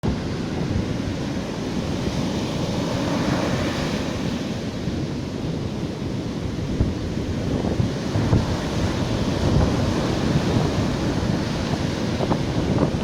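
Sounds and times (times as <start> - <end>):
sea surf washing onto shore: 0.0 - 13.0
wind buffeting microphone: 0.0 - 13.0.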